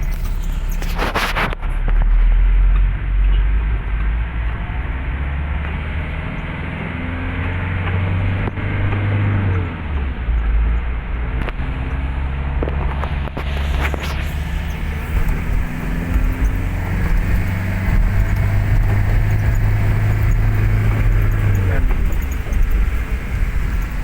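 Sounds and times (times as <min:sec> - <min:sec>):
vehicle engine and tyres rumbling: 0:00.0 - 0:24.0.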